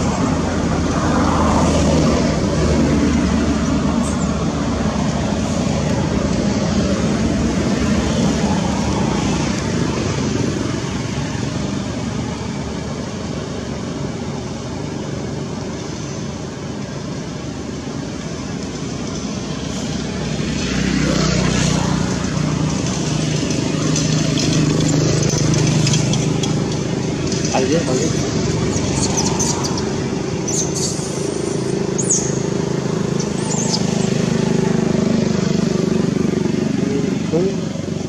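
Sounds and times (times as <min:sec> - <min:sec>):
motor traffic noise: 0:00.0 - 0:38.0
vehicle engine hum passing close: 0:00.0 - 0:38.0.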